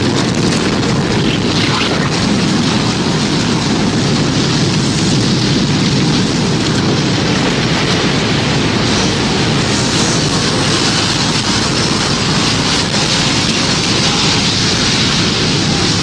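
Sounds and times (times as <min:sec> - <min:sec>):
rumble of wind and rain: 0:00.0 - 0:16.0.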